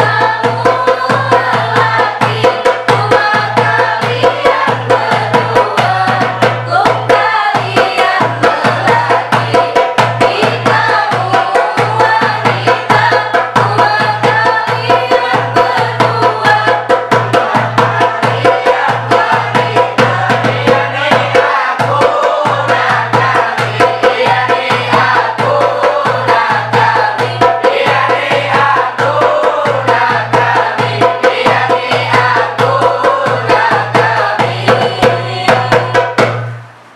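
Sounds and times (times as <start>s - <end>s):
group singing a chant: 0.0s - 36.5s
goblet drum beating rhythm: 0.0s - 36.9s.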